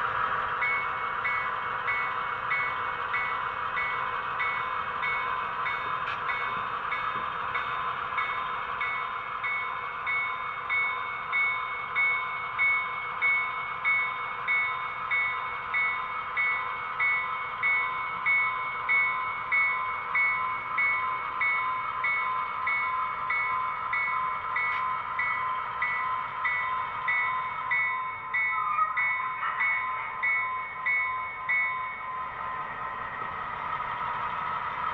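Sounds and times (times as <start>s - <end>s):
locomotive bell ringing: 0.0s - 33.0s.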